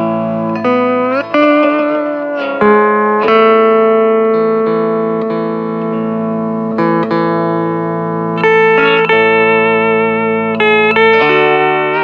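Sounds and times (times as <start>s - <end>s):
low musical accompaniment: 0.0s - 12.0s
steel guitar slow melody: 0.0s - 12.0s.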